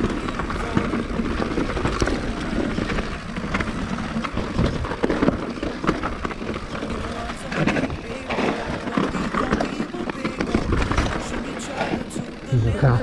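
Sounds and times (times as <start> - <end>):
bike knocks and rattles: 0.0 - 13.0
bike tyres crunching over stones: 0.0 - 13.0.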